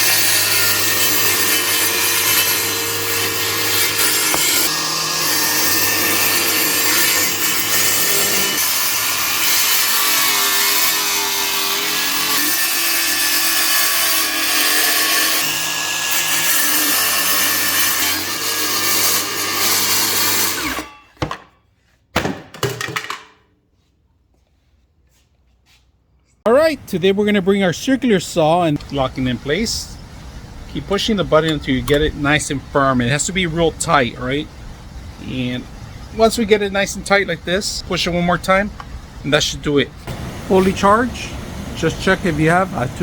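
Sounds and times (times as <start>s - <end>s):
circular saw cutting: 0.0s - 21.0s, 26.5s - 43.0s.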